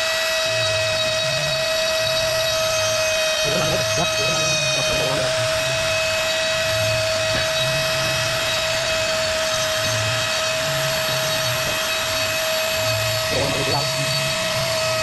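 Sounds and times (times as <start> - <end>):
power tool high whine: 0.0 - 15.0
soft low pulsing: 0.4 - 15.0.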